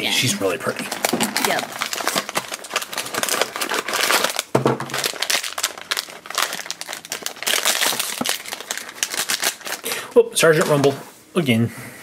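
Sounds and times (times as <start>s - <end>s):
foil bag crinkling: 0.7s - 11.0s.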